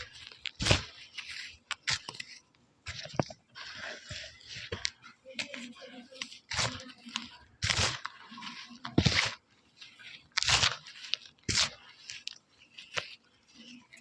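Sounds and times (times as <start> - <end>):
chalk being bitten and crunched: 0.0 - 14.0.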